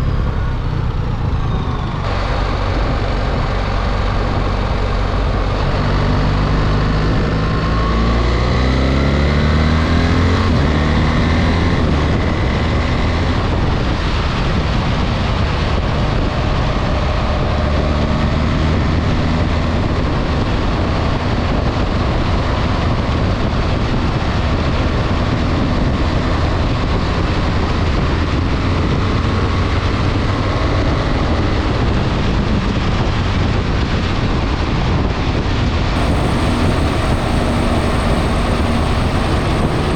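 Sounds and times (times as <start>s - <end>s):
motorcycle engine accelerating: 0.0s - 34.0s, 35.9s - 39.9s
wind and road noise: 0.0s - 39.9s.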